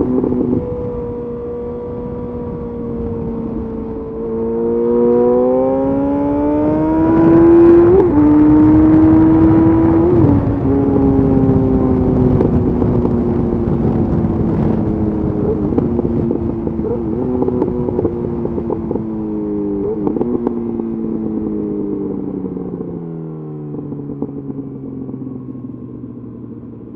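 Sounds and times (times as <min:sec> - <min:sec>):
motorcycle engine decelerating: 0:00.0 - 0:26.9.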